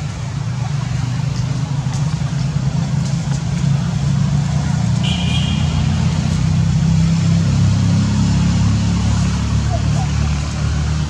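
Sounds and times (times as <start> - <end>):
engine running with low hum: 0.0 - 11.0.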